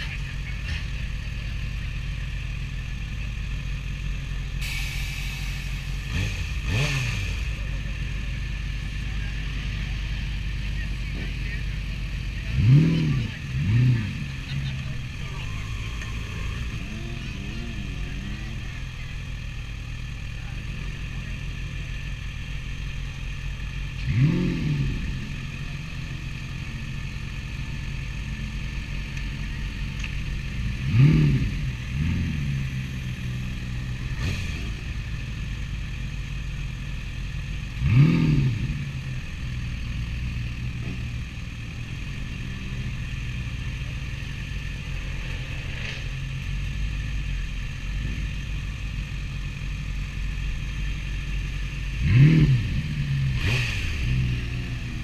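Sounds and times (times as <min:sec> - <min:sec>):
motorcycle engine idling: 0:00.0 - 0:30.8, 0:31.6 - 0:53.3.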